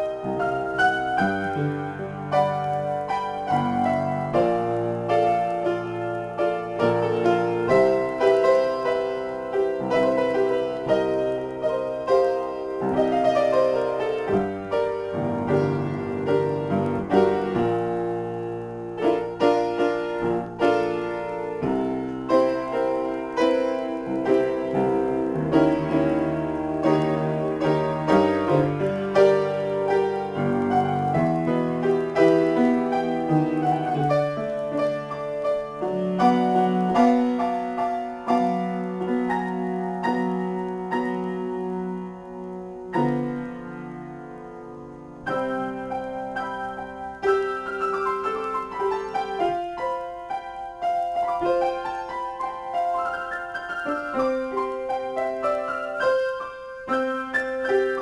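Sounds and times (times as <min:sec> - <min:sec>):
upright piano improvisation: 0:00.0 - 0:58.0.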